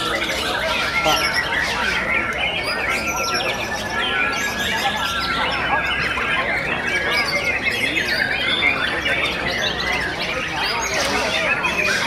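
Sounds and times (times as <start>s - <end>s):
birds singing whistles and trills: 0.0s - 12.0s.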